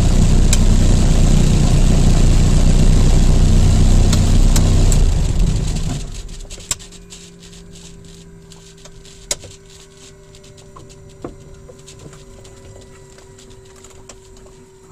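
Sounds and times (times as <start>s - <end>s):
light aircraft engine running down: 0.0s - 14.9s.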